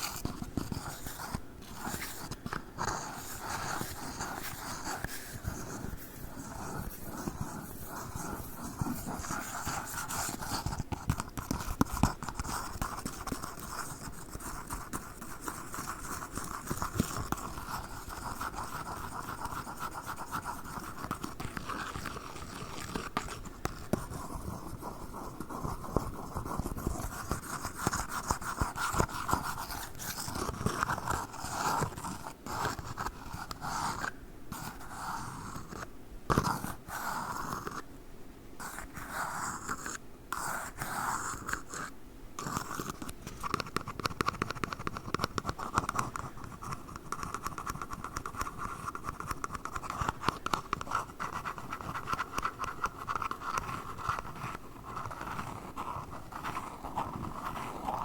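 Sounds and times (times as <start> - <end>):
scratching and tapping on cups: 0.0 - 34.8, 42.4 - 58.0.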